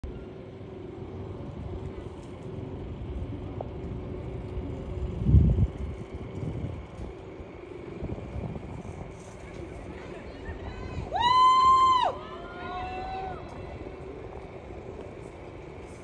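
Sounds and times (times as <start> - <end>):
faint steady hum: 0.0 - 16.0
wind rumble on microphone: 0.5 - 16.0.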